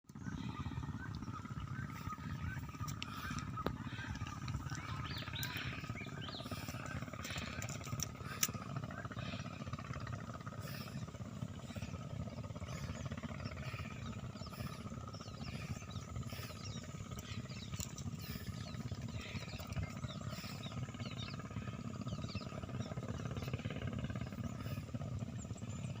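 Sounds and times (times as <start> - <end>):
wind rumbling on microphone: 0.2 - 26.0.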